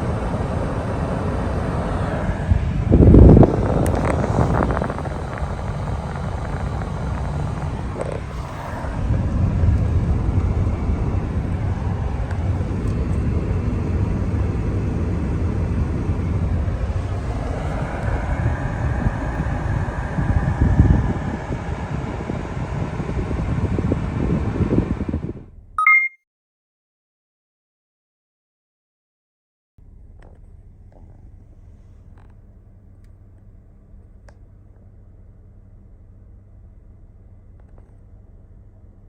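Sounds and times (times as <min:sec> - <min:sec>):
vehicle rumbling: 0:00.0 - 0:25.8, 0:29.8 - 0:39.0.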